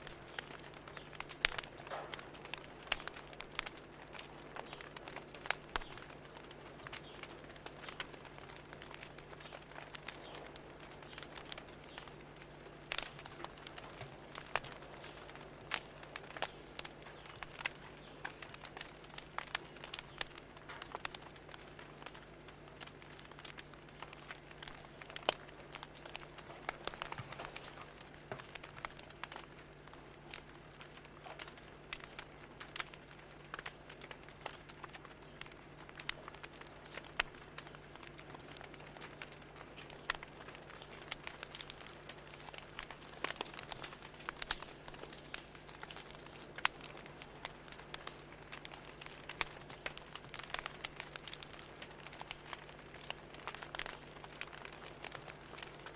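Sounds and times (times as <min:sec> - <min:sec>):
fire crackling and popping: 0:00.0 - 0:55.9
low steady hum: 0:00.0 - 0:55.9.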